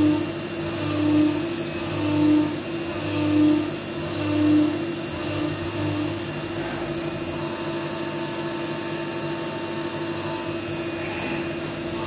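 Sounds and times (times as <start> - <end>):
milling spindle whine and cutting: 0.0 - 12.0.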